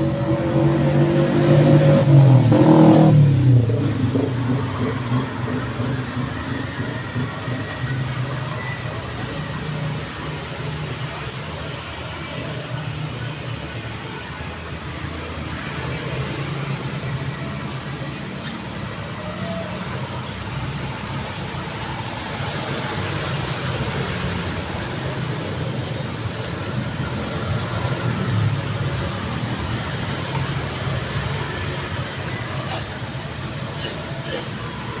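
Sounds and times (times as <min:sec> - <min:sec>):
passing cars tyre and engine noise: 0:00.0 - 0:35.0.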